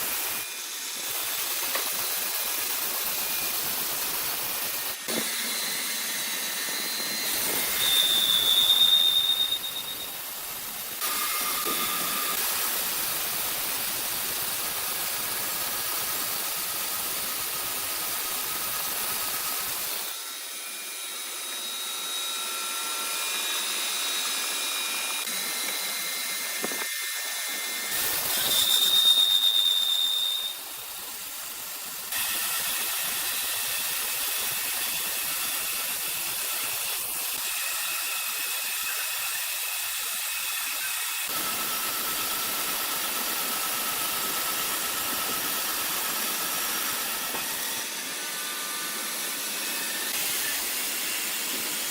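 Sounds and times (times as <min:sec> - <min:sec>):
high-pitched saw whine: 0:00.0 - 0:51.9
sawmill machinery hissing: 0:00.0 - 0:51.9.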